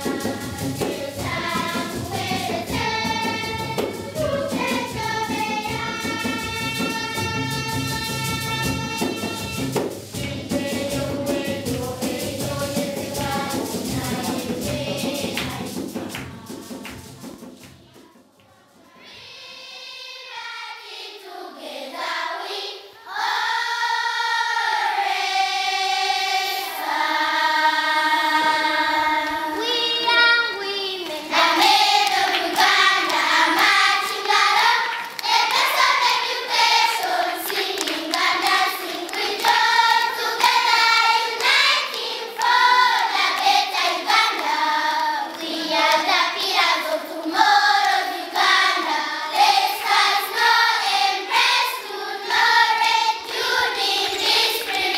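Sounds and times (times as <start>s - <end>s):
hand claps: 0.0s - 18.5s, 29.2s - 54.9s
children's choir singing: 0.0s - 54.9s.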